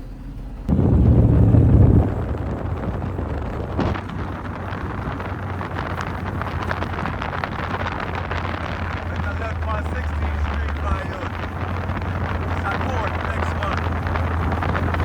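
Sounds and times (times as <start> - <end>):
constant low hum: 0.0 - 15.0
road and wind noise: 0.0 - 15.0
wind buffeting microphone: 0.0 - 15.0.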